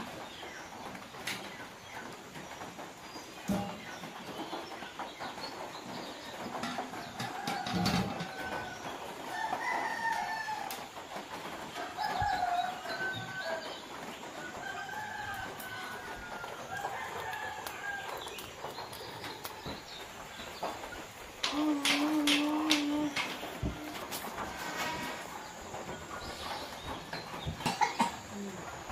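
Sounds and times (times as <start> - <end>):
chickens clucking and calling: 0.8 - 28.8.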